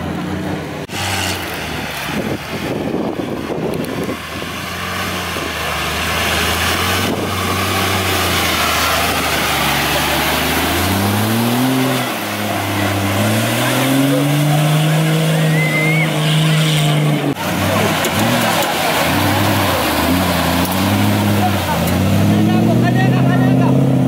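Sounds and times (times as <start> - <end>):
off-road engine running and revving: 0.0 - 24.0.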